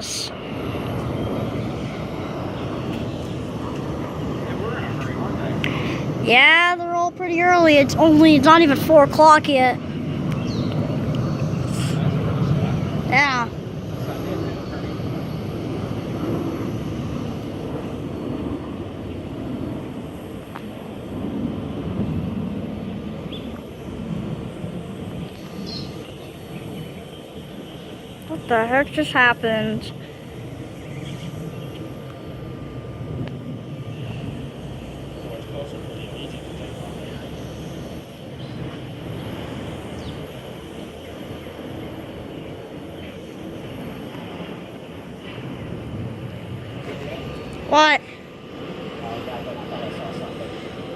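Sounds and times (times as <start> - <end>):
jet engine rumble: 0.0 - 50.9.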